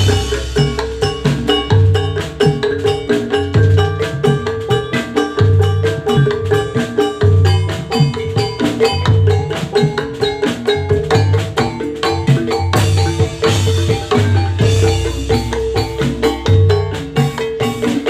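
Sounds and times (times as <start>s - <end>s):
deep drum beats: 0.0s - 18.0s
gamelan struck metal instruments: 0.0s - 18.0s.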